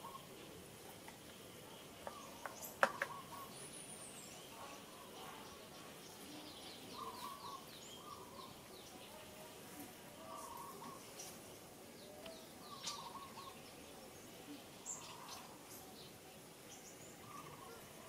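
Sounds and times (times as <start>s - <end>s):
wild birds chirping and calling: 0.0s - 18.0s.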